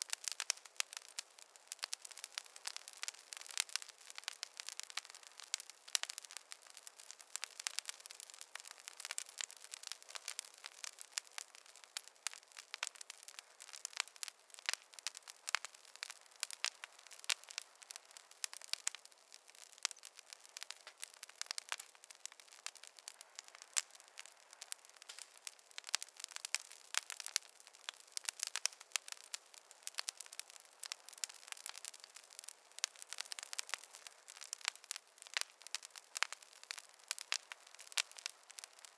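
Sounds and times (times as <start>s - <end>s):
wood logs crackling in fireplace: 0.0s - 38.9s.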